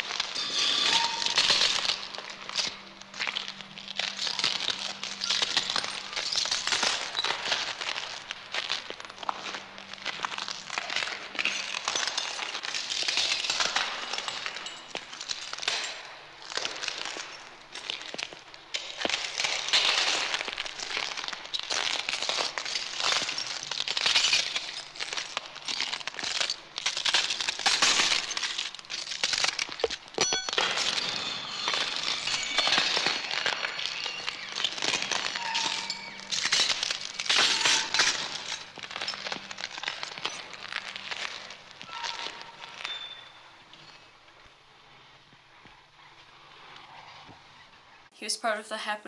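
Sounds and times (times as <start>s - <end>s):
dense crackling and crinkling: 0.0s - 48.9s.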